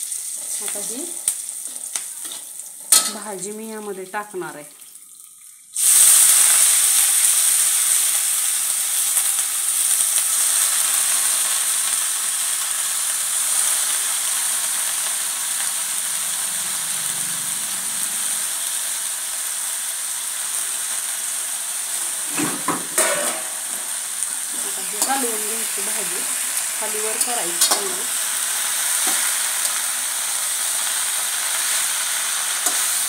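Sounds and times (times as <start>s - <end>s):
leaves sizzling in hot oil: 0.0s - 33.0s.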